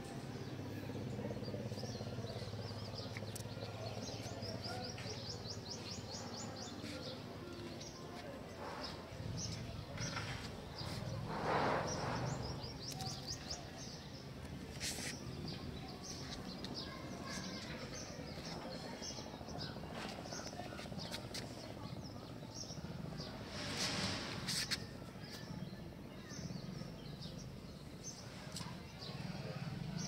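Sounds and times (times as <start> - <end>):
birds chirping: 0.3 - 30.0.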